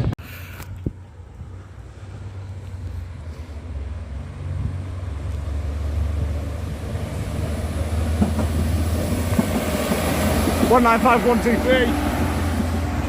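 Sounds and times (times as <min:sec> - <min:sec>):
diesel train engine rumble: 0:00.0 - 0:13.0.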